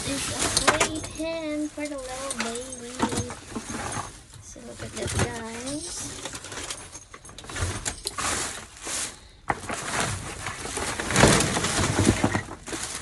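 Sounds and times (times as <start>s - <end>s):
items rustling in a dumpster: 0.0s - 13.0s.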